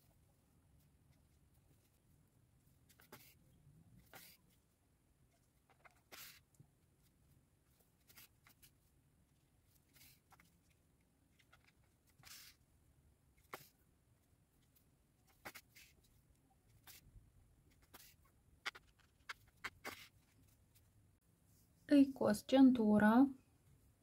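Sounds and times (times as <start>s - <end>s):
fingers handling yarn: 0.0s - 12.7s, 13.3s - 22.0s.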